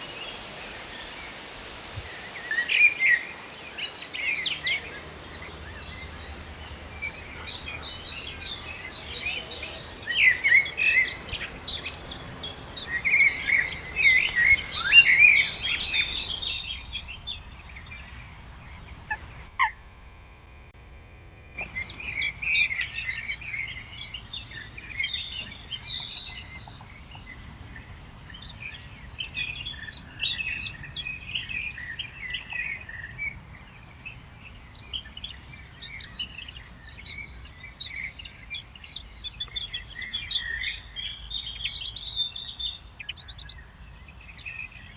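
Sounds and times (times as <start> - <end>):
birds singing and chirping: 0.0 - 19.9, 21.6 - 43.6
faint low background noise: 0.0 - 44.9.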